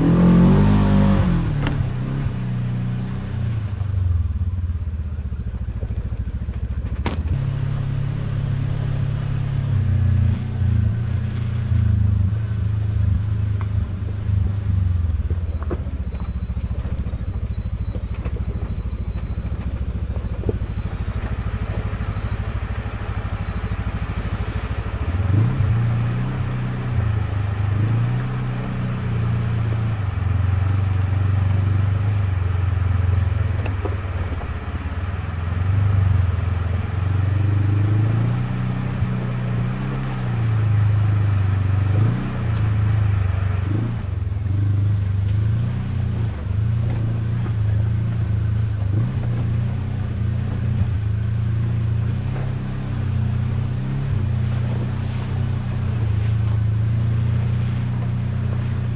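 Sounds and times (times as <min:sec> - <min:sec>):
off-road vehicle engine running: 0:00.0 - 0:58.9.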